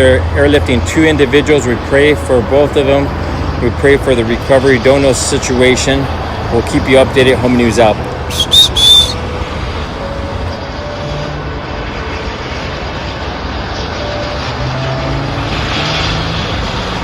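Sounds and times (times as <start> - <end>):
helicopter running: 0.2 - 17.0.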